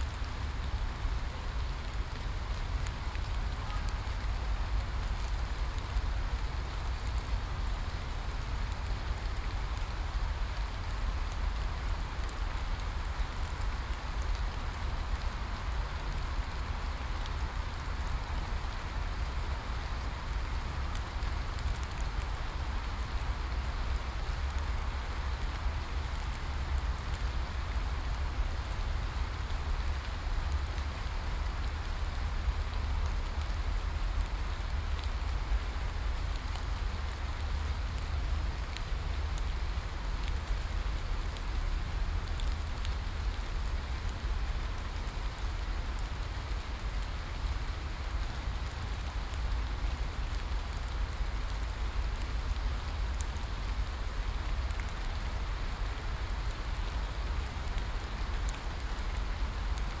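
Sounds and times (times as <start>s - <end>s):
heavy rain on leaves: 0.0s - 60.0s.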